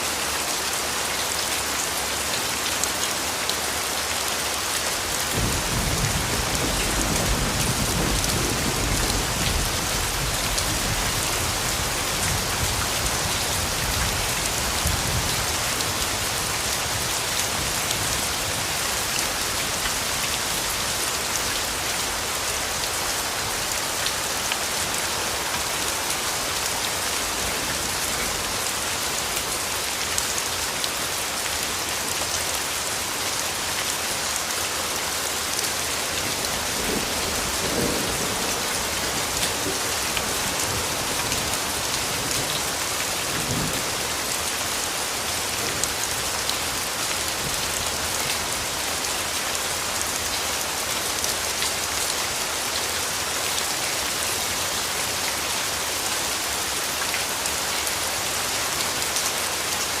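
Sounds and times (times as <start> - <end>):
rain falling on leaves: 0.0 - 60.0.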